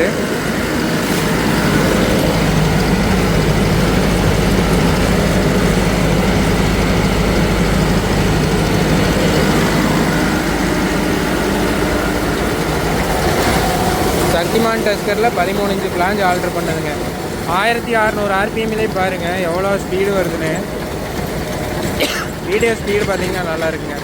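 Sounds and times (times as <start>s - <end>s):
rotary tiller mulching plants: 0.0s - 24.0s
tractor diesel engine under load: 0.0s - 24.0s.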